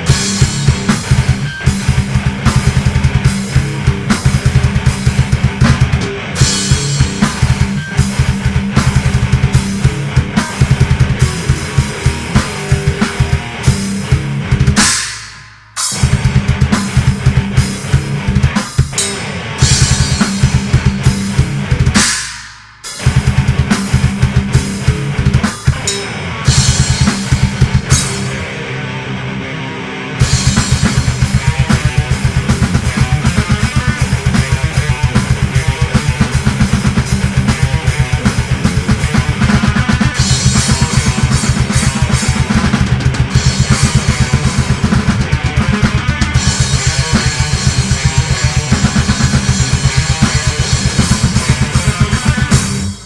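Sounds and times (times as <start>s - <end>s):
fast kick drum pattern: 0.0s - 15.0s, 15.9s - 19.0s, 19.6s - 22.2s, 22.9s - 25.9s, 26.5s - 28.3s, 30.2s - 53.0s
heavy drum hits: 0.0s - 28.6s, 30.2s - 53.0s
death metal guitars: 0.0s - 53.0s.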